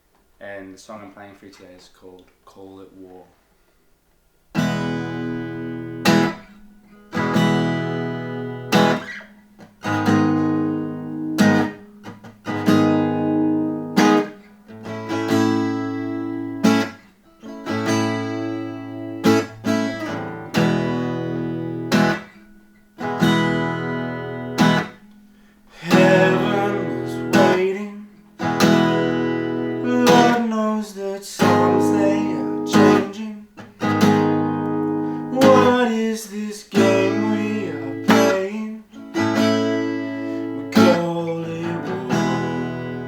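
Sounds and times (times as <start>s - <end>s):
acoustic guitar chords strummed: 4.5s - 43.0s.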